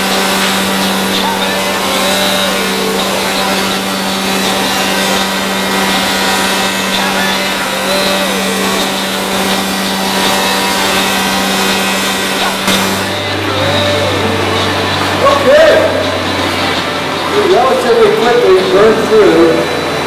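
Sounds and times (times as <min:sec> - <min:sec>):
machine running: 0:00.0 - 0:20.0
steady hum: 0:00.0 - 0:20.0.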